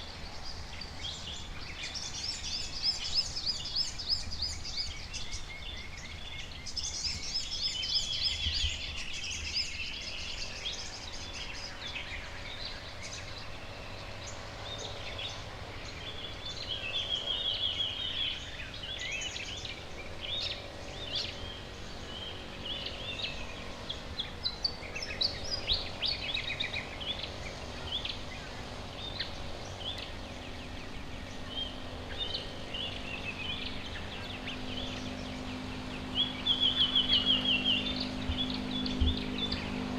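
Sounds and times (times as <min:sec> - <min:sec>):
birds chirping and trilling: 0:00.0 - 0:39.9
faint low hum: 0:00.0 - 0:39.9
low background rumble: 0:00.0 - 0:39.9.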